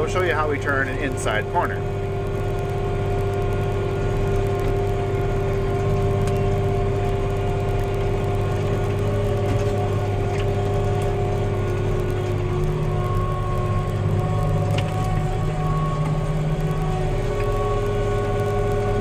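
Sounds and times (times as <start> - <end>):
steady whine: 0.0 - 19.0
tractor engine droning: 0.0 - 19.0
faint ticks: 1.9 - 19.0.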